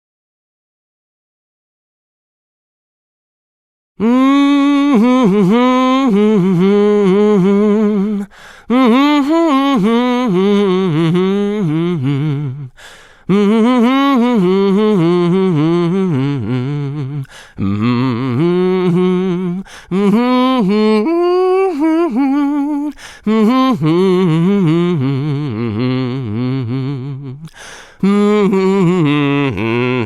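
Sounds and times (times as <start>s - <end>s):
man humming a tune: 4.0s - 30.0s.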